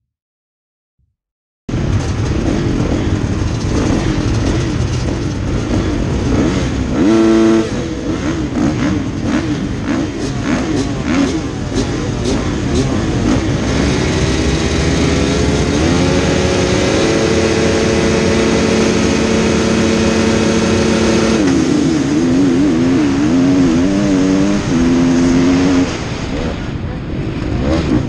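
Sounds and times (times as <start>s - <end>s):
motocross bike engines revving: 1.7s - 28.0s.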